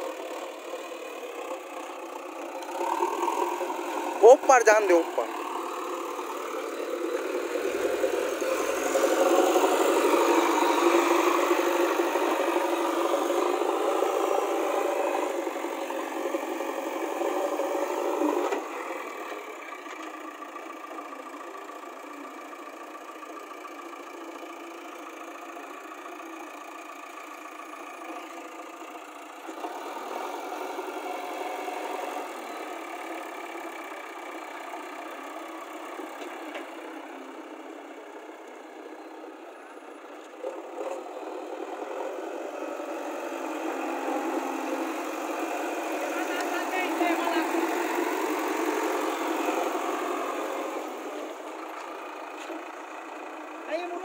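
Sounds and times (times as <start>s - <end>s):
diesel engine working: 0.0s - 54.0s.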